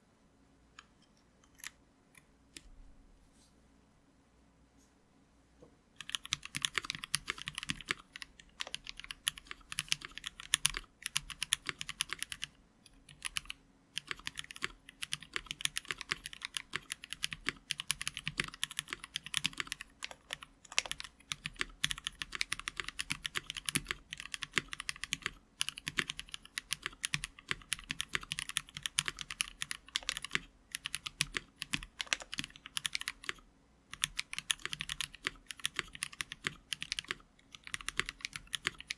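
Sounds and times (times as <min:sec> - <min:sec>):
mechanical keyboard typing: 0:06.0 - 0:38.9.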